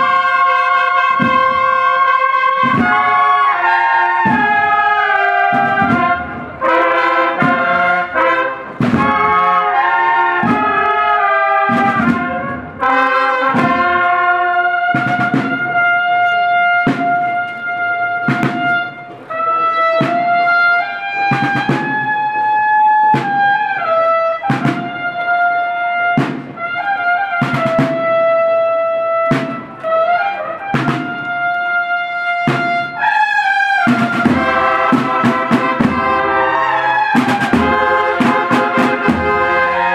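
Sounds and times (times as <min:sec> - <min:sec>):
steady drum beat: 0:00.0 - 0:28.6, 0:29.2 - 0:39.9
brass band playing a march: 0:00.0 - 0:39.9.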